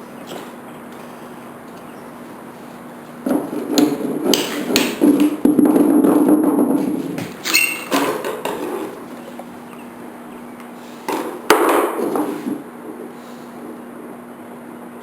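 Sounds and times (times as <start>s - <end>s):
rumble of moving parts: 0.0s - 15.0s.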